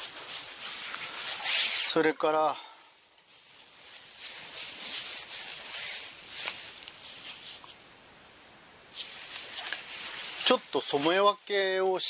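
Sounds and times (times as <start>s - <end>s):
silk fabric rustling: 0.0s - 2.2s, 3.1s - 7.8s, 8.9s - 12.0s.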